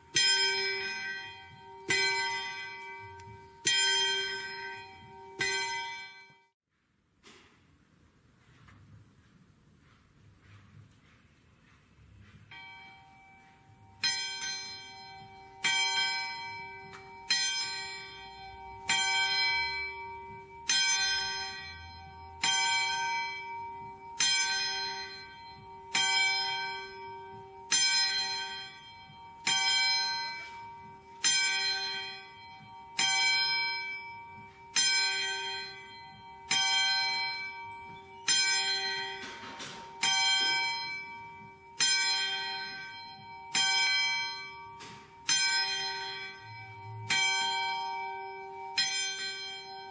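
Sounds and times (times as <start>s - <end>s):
church bell tolling: 0.0s - 6.6s, 12.5s - 49.9s.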